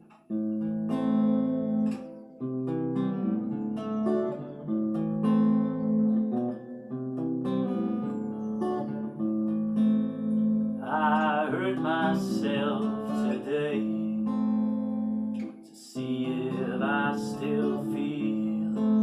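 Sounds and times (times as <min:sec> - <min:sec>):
acoustic guitar chords strummed: 0:00.0 - 0:19.0.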